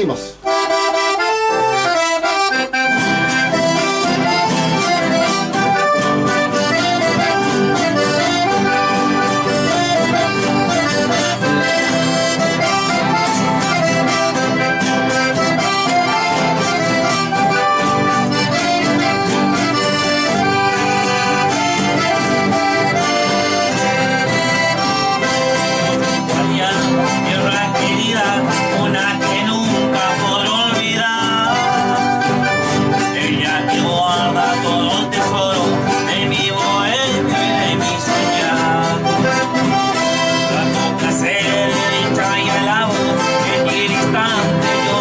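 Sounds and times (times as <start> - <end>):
accordion playing: 0.0 - 45.0.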